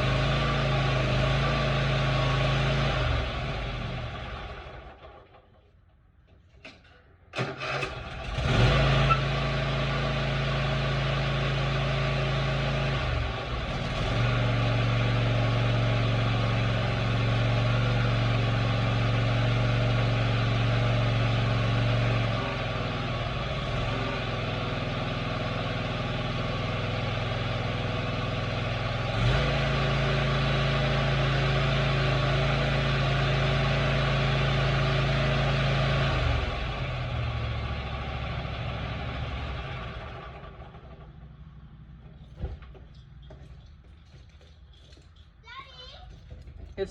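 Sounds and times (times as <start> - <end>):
lawn mower engine starting and running: 0.0 - 45.5.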